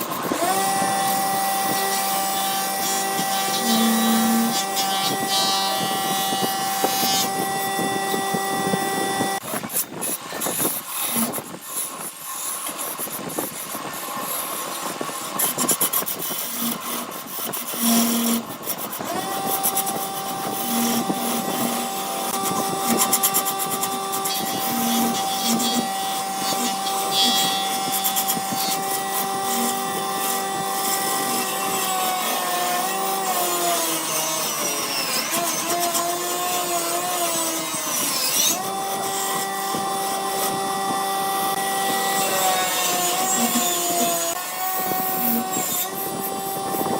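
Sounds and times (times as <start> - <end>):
turning tool scraping wood: 0.0 - 46.9
wood lathe whining: 0.0 - 46.9.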